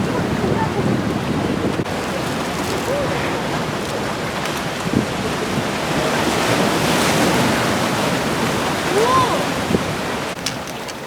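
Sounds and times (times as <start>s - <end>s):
sea surf washing onto beach: 0.0s - 11.0s
wind buffeting the microphone: 0.0s - 11.0s.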